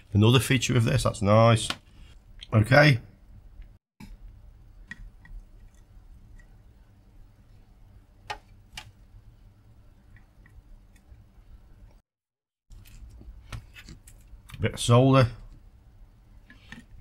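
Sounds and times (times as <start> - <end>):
low steady hum: 0.0 - 12.0, 12.7 - 17.0.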